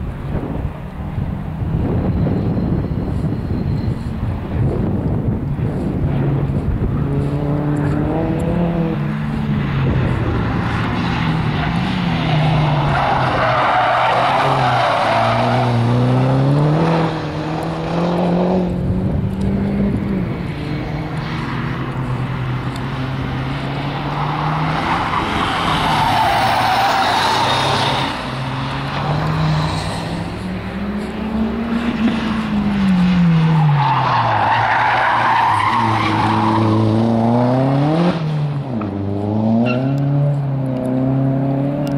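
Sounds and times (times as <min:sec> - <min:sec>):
tyres skidding: 0:00.4 - 0:41.9
car engine revving: 0:06.2 - 0:41.9.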